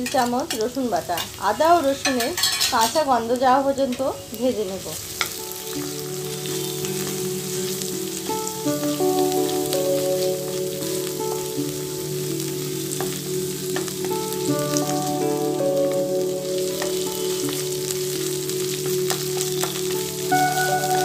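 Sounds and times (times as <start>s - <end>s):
paste sizzling in hot oil: 0.0s - 21.0s
soft instrumental music: 0.0s - 21.0s.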